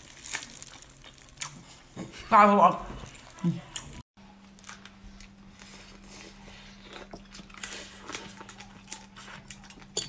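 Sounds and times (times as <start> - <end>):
sucking and chewing: 0.0 - 2.0, 3.1 - 10.0.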